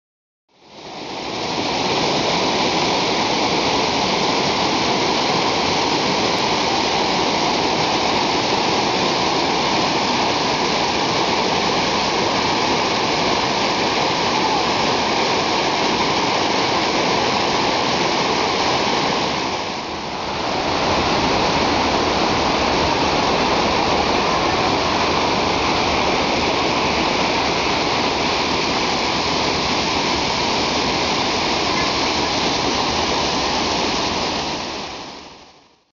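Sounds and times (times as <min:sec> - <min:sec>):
water rushing over rocks: 0:00.6 - 0:35.7.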